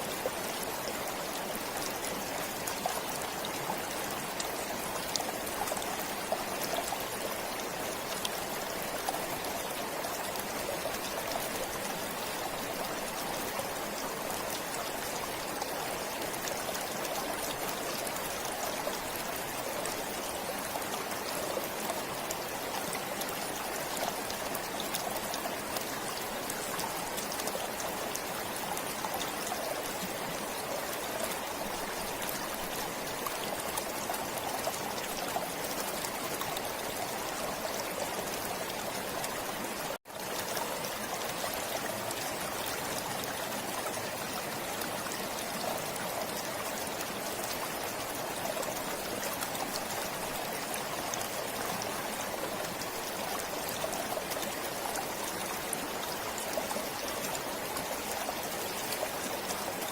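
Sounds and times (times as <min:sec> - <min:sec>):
forest stream trickling: 0:00.0 - 0:59.9.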